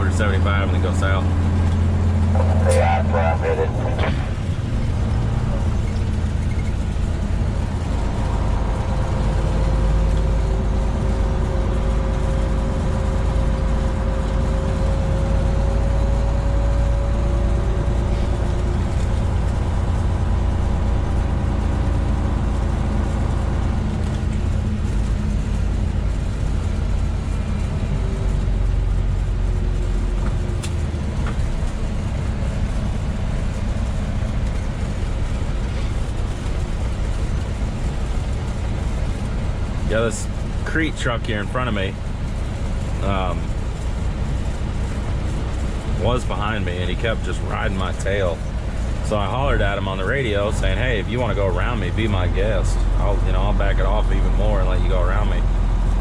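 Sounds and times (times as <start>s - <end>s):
faint engine whine: 0.0s - 56.0s
truck diesel engine rumble: 0.0s - 56.0s.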